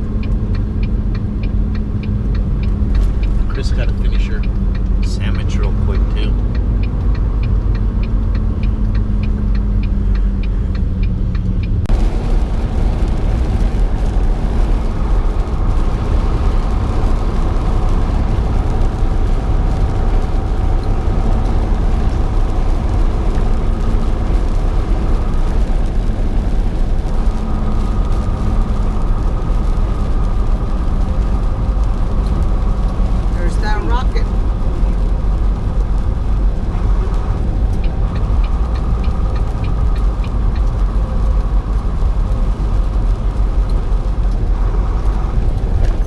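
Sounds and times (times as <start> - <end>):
light regular ticking: 0.0 - 46.0
truck engine and tyre drone: 0.0 - 46.0.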